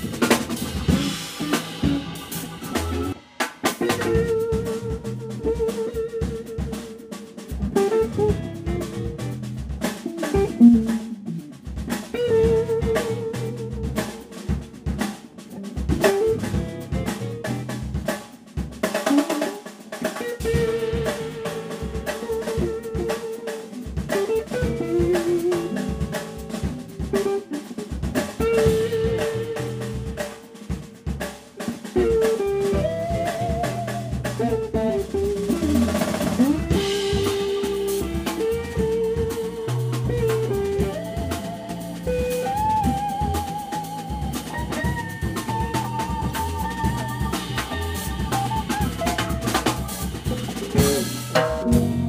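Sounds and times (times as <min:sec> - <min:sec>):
band playing instrumental: 0:00.0 - 0:52.0
drum kit: 0:00.0 - 0:52.0.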